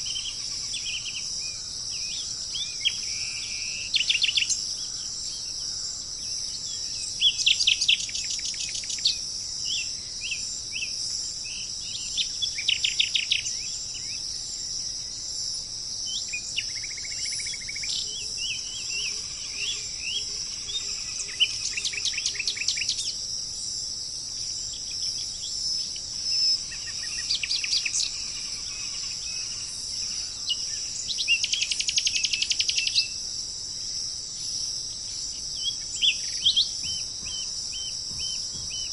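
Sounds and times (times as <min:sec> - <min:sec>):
songbird trilling: 0:00.0 - 0:14.2, 0:16.1 - 0:23.2, 0:24.7 - 0:33.2, 0:35.3 - 0:38.9
insects chirring: 0:00.0 - 0:38.9.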